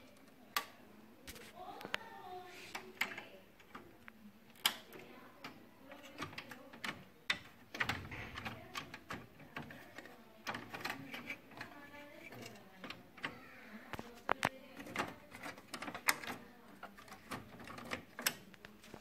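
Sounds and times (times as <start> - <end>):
clicks and knocks of parts handled: 2.7 - 19.0.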